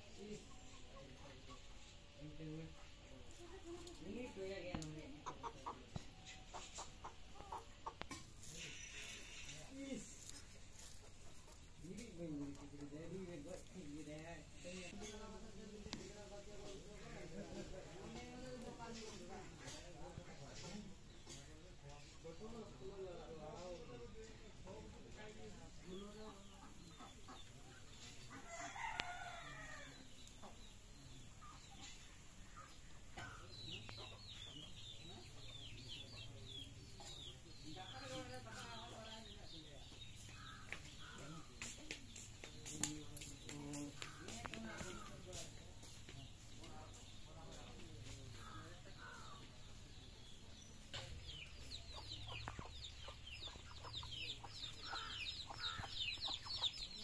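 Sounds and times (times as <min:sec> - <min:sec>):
chickens clucking and peeping: 0:00.0 - 0:57.0.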